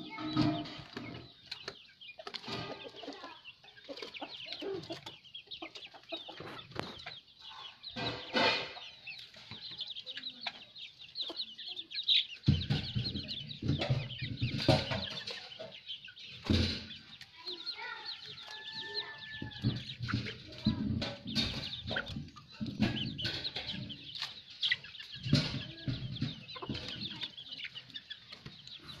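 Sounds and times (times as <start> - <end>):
young chickens peeping: 0.0 - 29.0.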